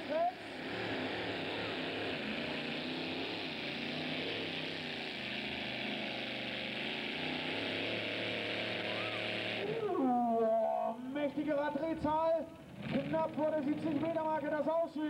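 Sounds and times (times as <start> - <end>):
engine at high revs: 0.0 - 14.6.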